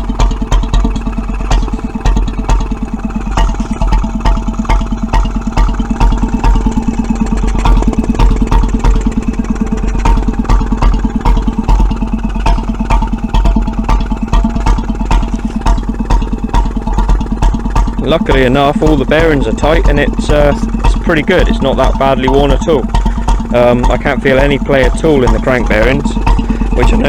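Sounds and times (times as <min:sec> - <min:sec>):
stationary engine exhaust beats: 0:00.0 - 0:27.0.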